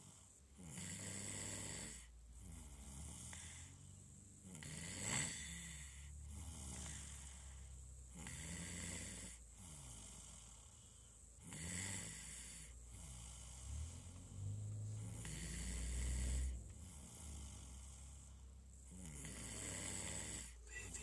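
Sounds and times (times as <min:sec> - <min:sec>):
rhythmic snoring: 0:00.0 - 0:21.0.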